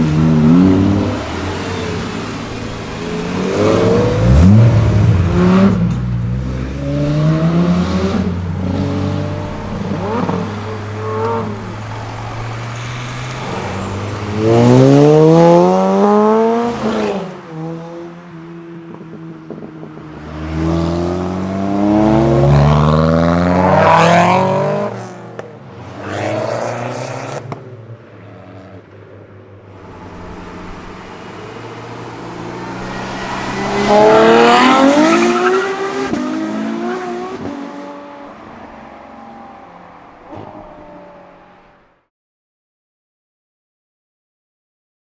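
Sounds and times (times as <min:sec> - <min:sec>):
cars accelerating past: 0:00.0 - 0:29.0, 0:29.7 - 0:41.7.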